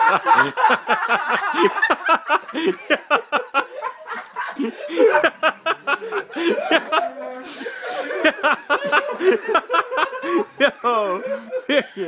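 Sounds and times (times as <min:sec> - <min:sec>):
people laughing and snickering: 0:00.0 - 0:12.0.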